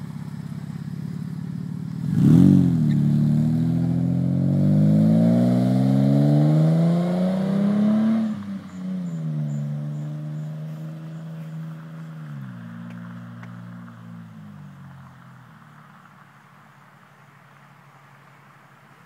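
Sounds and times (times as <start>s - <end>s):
car exhaust revving: 0.0s - 15.8s.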